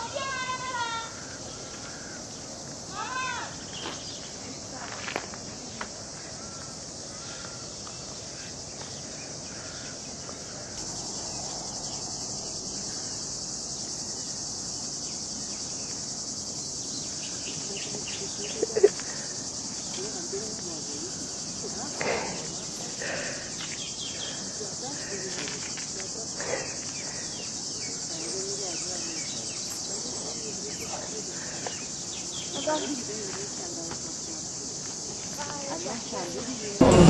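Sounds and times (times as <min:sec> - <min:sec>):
insect chorus drone: 0:00.0 - 0:37.0.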